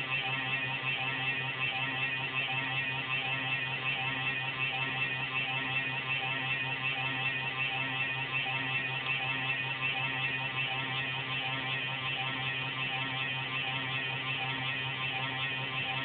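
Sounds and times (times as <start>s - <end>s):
computer pulsating whirr: 0.0s - 16.0s.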